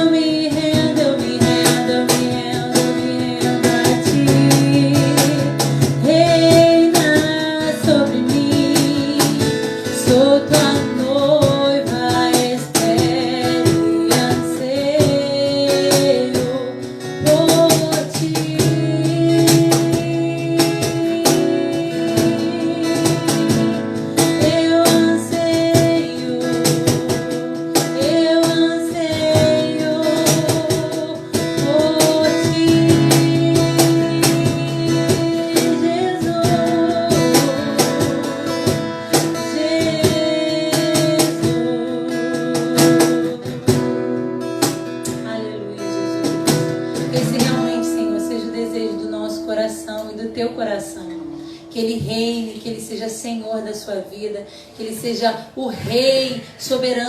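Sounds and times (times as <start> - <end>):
person singing: 0.0 - 44.1, 45.0 - 52.8
guitar: 0.0 - 57.0.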